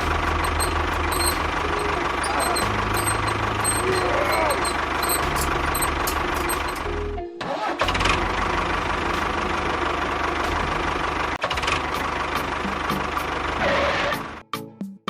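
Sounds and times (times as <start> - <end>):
tractor engine idling with knocking: 0.0 - 14.4.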